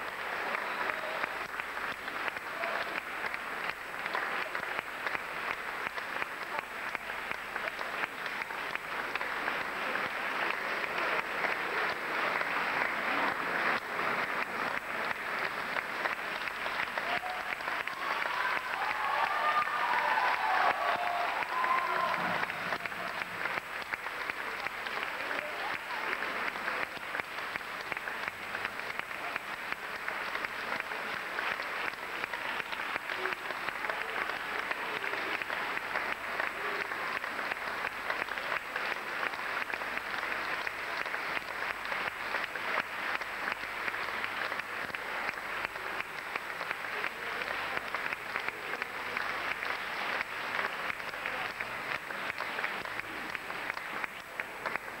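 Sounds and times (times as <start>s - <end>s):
audience applause: 0.0s - 55.0s.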